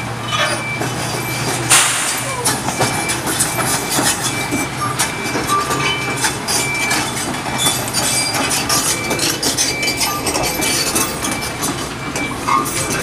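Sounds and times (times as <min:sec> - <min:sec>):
diesel engine hum: 0:00.0 - 0:13.0
excavator tracks clanking: 0:00.0 - 0:13.0.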